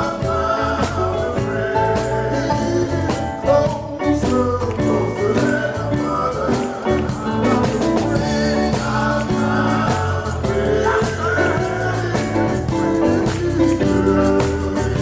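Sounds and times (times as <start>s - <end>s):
gospel band music: 0.0s - 15.0s.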